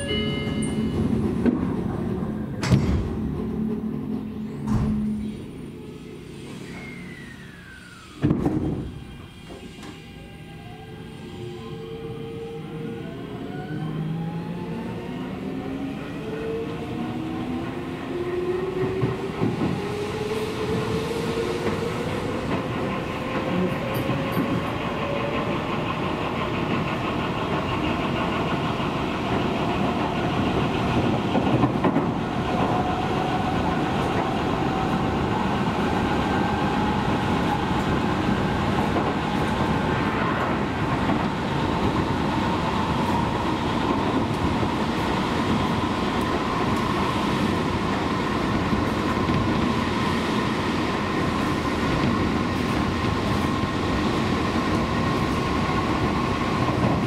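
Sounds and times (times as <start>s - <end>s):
train wheels on rails: 0.0s - 10.3s, 13.5s - 57.0s.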